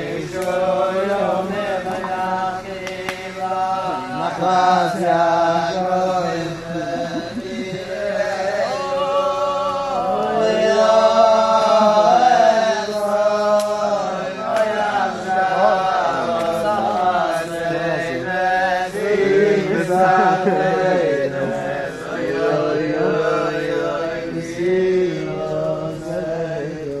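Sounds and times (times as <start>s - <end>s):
men singing together: 0.0s - 27.0s.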